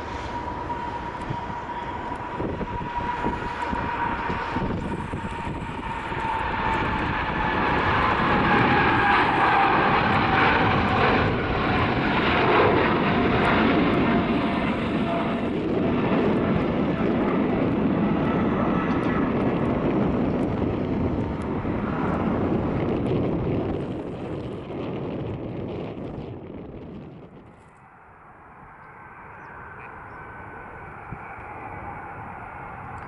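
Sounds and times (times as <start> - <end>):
jet engine rushing: 0.0 - 33.0.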